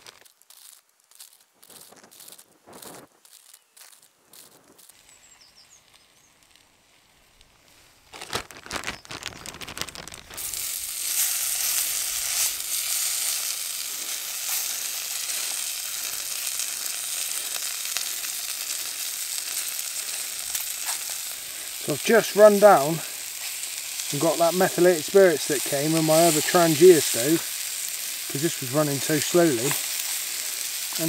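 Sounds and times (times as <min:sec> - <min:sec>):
meat sizzling in a pan: 0:00.0 - 0:31.0.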